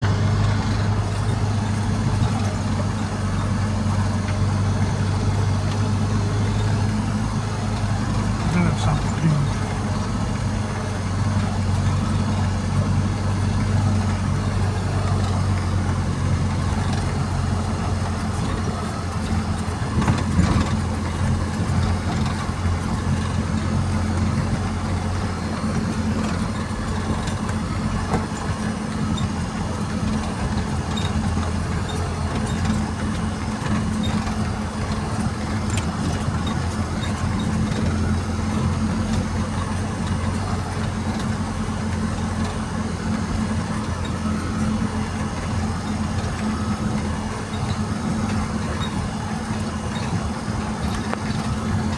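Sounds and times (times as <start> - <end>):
large engine running: 0.0 - 51.9.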